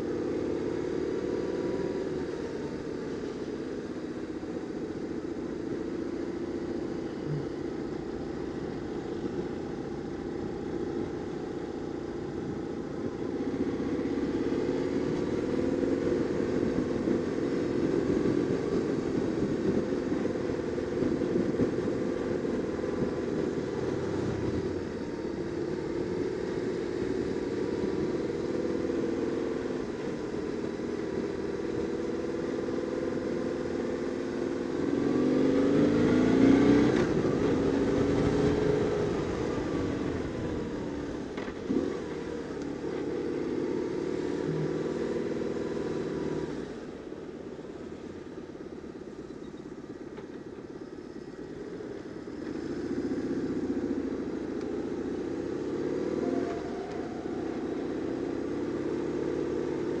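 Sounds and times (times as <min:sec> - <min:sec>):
motorcycle engine revving: 0:00.0 - 0:49.2, 0:51.1 - 1:00.0.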